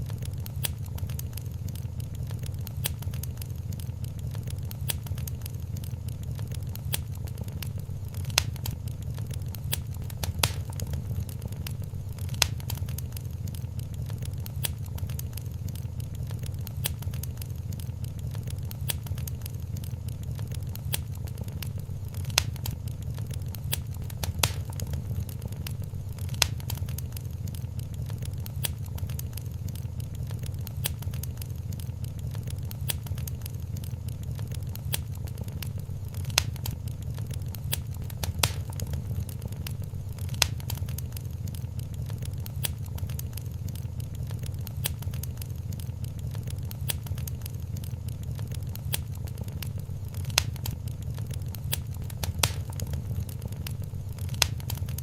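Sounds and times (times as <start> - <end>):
low rumble of flames: 0.0 - 55.0
sharp pops and snaps: 0.0 - 55.0
wood fire crackling: 0.0 - 55.0.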